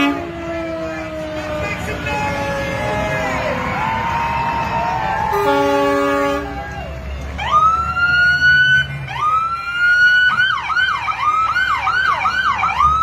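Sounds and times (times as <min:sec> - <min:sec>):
emergency vehicle siren: 0:00.0 - 0:13.0.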